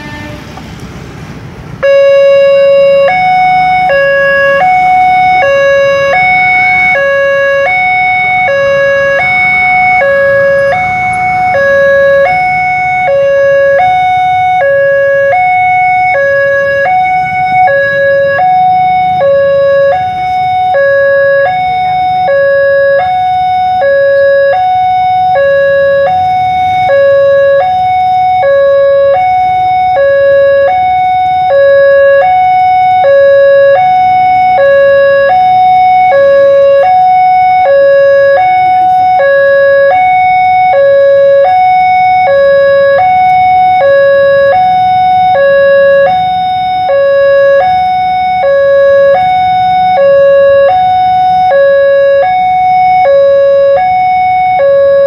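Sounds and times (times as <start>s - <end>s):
road traffic rumble: 0.0s - 55.0s
level crossing alarm two tones: 1.8s - 55.0s.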